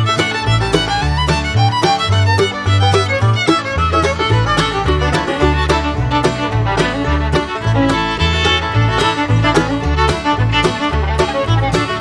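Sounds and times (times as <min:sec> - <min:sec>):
upbeat bluegrass music: 0:00.0 - 0:12.0.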